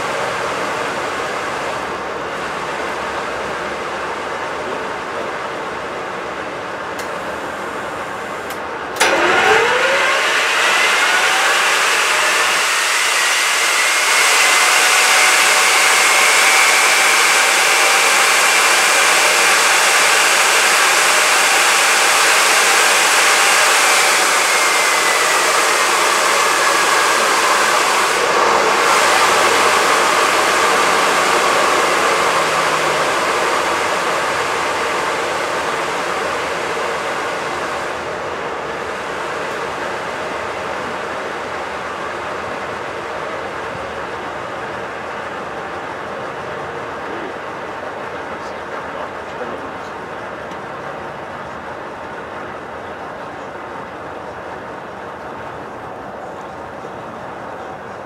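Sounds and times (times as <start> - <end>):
turbojet engine whine: 0.0 - 58.0.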